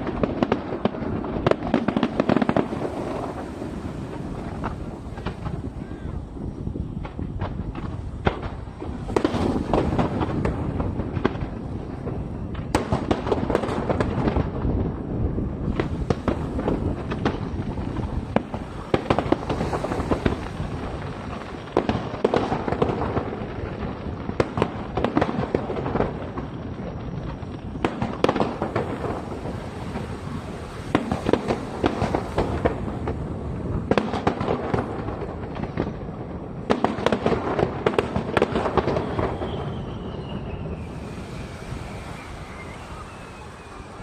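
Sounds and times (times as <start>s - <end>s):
fireworks bursting: 0.0s - 44.0s
sharp firework cracks and bangs: 0.0s - 44.0s.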